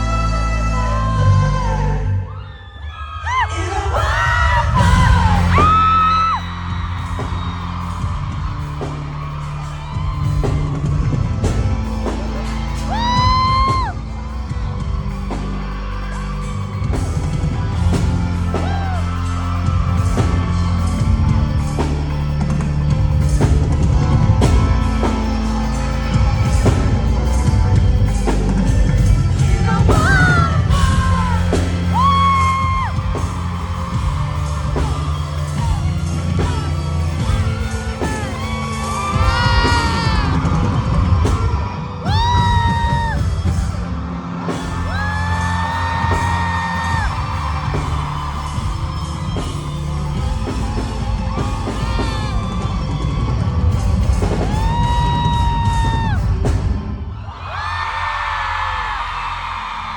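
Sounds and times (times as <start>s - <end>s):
fans yelling and whooping: 0.0s - 59.9s.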